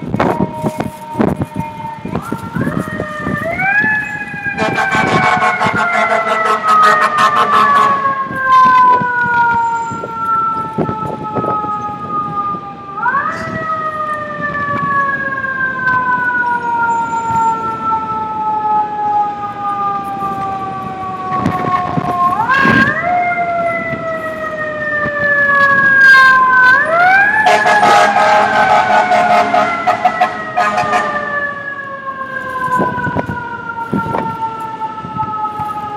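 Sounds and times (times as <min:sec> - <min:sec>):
mechanical siren wailing: 0:00.0 - 0:35.9.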